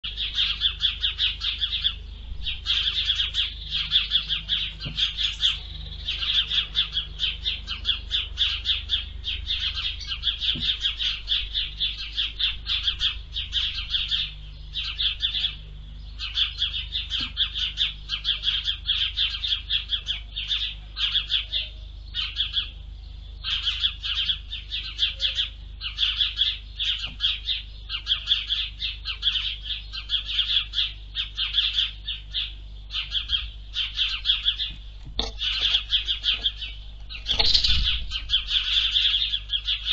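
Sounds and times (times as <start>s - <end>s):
songbirds chirping rapidly: 0.0s - 39.9s.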